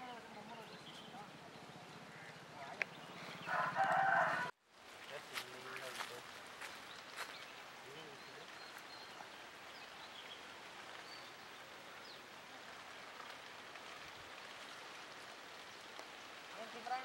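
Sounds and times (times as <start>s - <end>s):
embers crackling: 0.0s - 17.0s.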